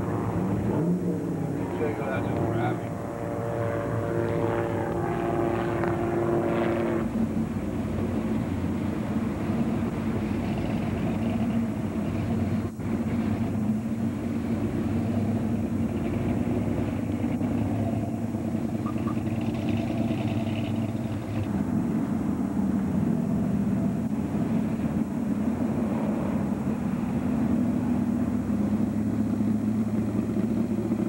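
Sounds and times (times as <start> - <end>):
hot rod engines rumbling: 0.0 - 31.0.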